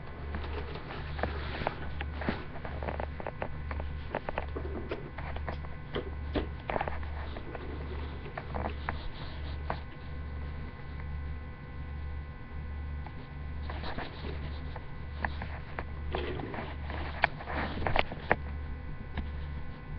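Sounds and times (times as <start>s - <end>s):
low pulsing hum: 0.0s - 19.9s.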